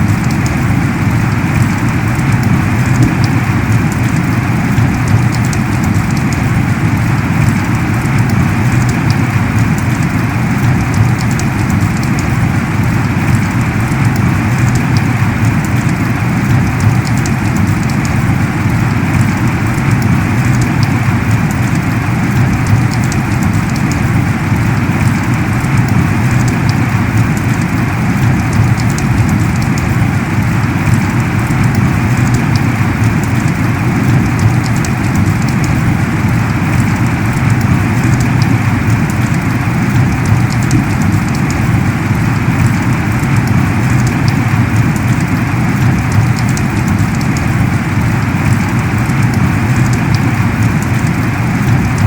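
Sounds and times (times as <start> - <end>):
heavy rain: 0.0 - 52.0
raindrop ticks: 0.0 - 52.0.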